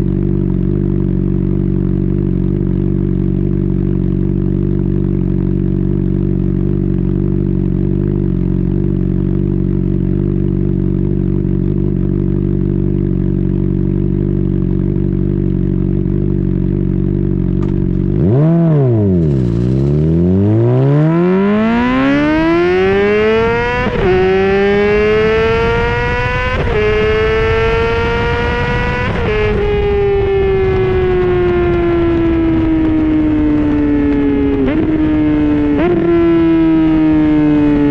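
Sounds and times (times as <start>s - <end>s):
motorcycle accelerating through gears: 0.0s - 37.9s
motorcycle engine idling and revving: 0.0s - 37.9s.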